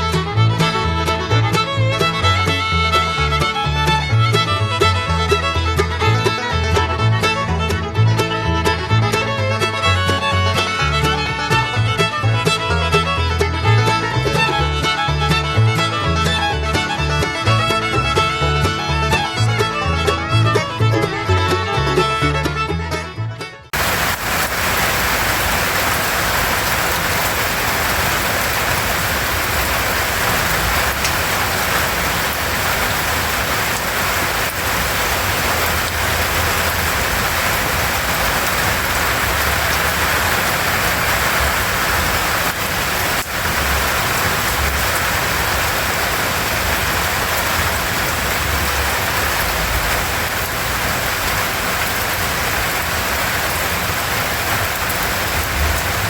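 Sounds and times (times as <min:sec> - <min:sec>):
rain falling: 0:00.0 - 0:07.4, 0:08.0 - 0:19.6, 0:23.8 - 0:56.0.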